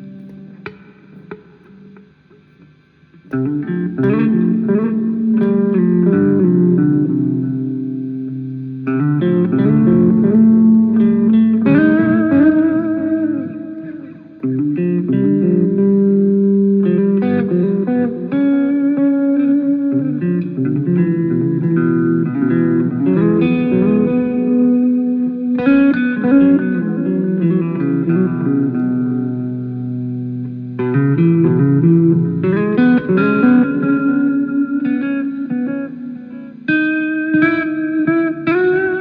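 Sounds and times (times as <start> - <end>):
guitar playing: 0.0 - 39.0.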